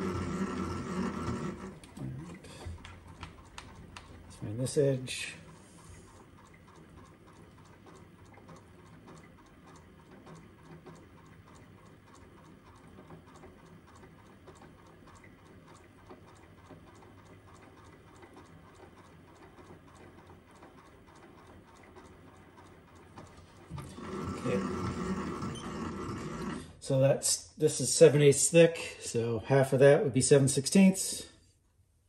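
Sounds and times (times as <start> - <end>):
milling machine hum: 0.0 - 27.0.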